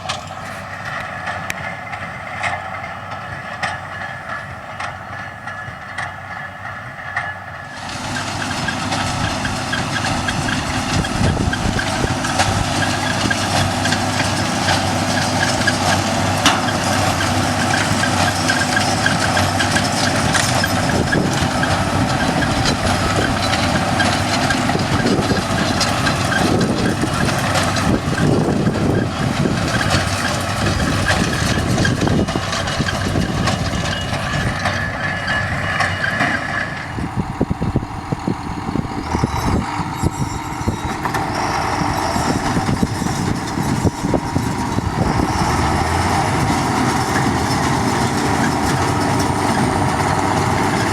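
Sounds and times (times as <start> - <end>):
heavy vehicle running: 0.0 - 50.9.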